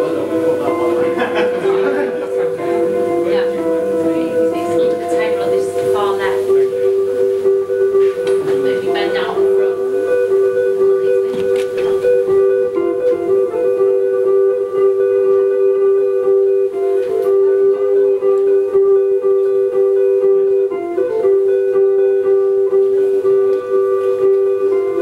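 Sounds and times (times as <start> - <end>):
two-note drone: 0.0 - 25.0.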